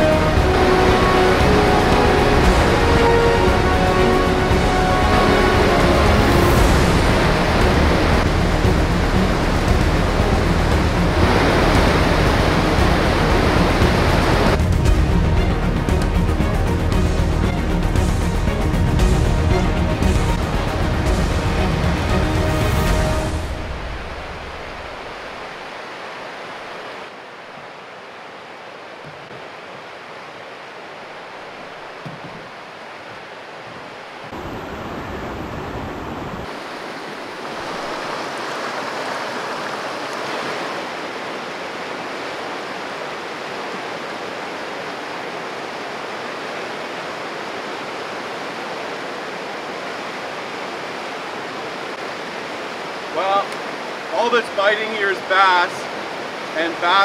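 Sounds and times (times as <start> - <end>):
whitewater rushing: 0.0 - 57.0.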